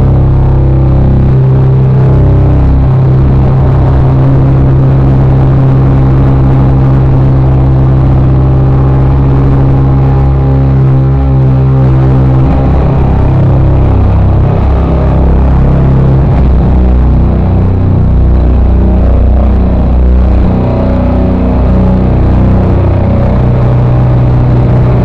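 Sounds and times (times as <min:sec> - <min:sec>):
loud live music bass drone: 0:00.0 - 0:25.0.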